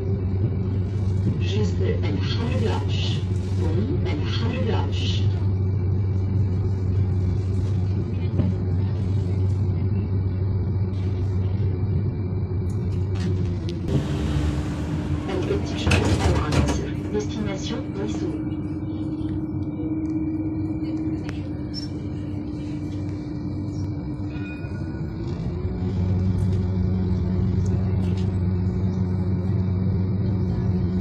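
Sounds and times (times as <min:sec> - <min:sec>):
constant hum: 0:00.0 - 0:31.0
tram rumbling: 0:00.0 - 0:31.0.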